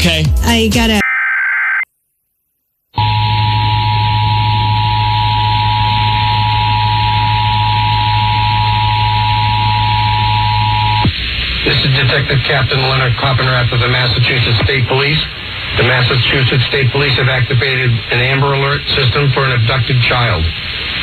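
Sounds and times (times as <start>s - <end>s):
radio hiss and low hum: 3.0s - 21.0s.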